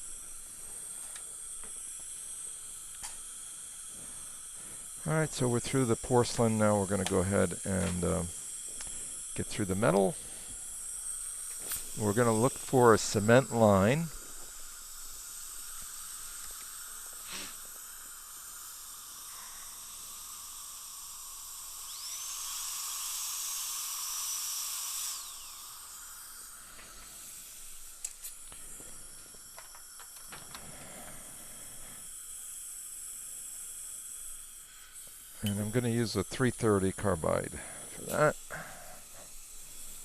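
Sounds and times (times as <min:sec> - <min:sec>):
dental drill hiss and whine: 0:00.0 - 0:40.0.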